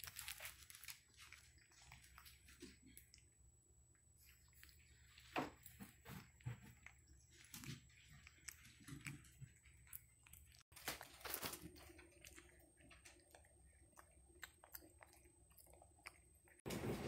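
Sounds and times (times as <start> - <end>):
faint clicks and crackles: 0.0 - 16.7.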